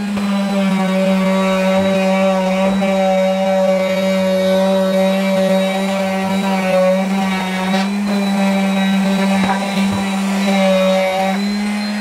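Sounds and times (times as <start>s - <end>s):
orbital sander sanding wood: 0.0s - 12.0s.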